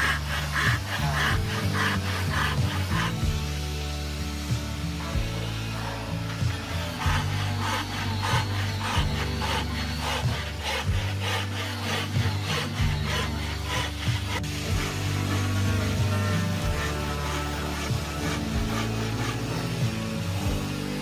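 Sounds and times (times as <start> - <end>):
background music with bass: 0.0 - 21.0
hand saw cutting wood: 0.0 - 21.0.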